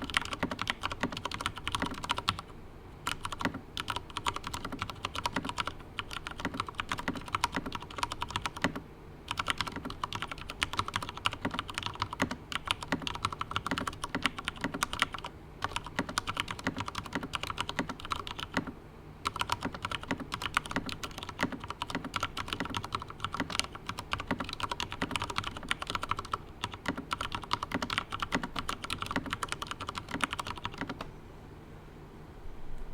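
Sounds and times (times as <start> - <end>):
typing on mechanical keyboard: 0.0 - 31.1.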